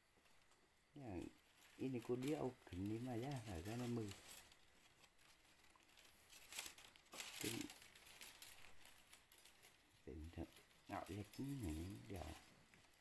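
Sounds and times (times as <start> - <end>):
plant leaf strips rustling: 0.0 - 13.0.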